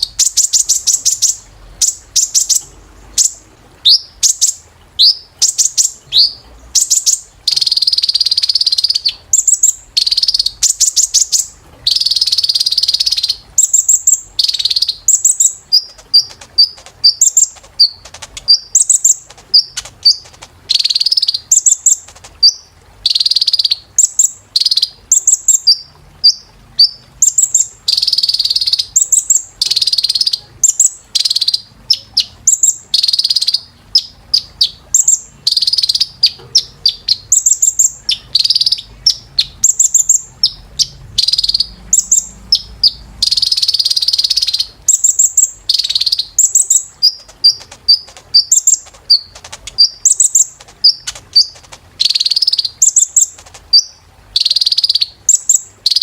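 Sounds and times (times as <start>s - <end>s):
sunbird chirping and trilling: 0.0s - 56.0s.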